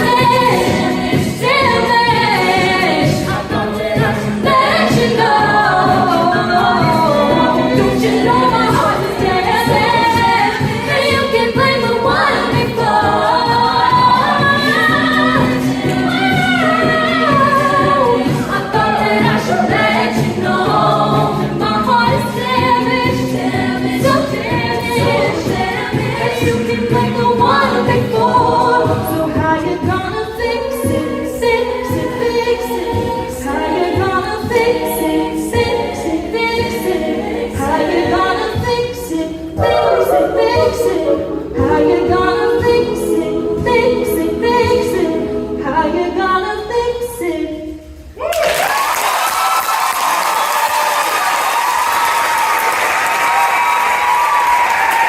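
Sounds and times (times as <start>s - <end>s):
a cappella choir singing: 0.0s - 55.0s.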